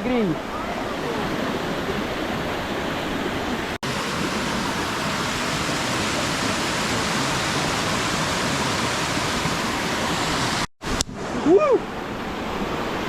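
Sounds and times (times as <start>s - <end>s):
waterfall roaring: 0.1s - 13.0s.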